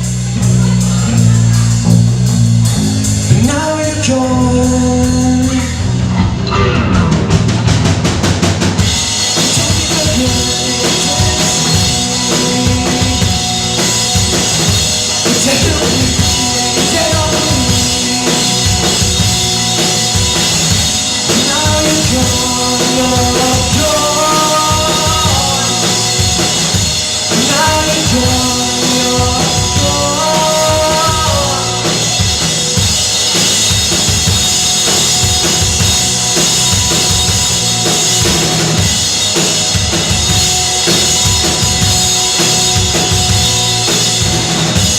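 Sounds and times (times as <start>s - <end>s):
drum kit beat: 0.0s - 44.9s
rock band playing: 0.0s - 44.9s.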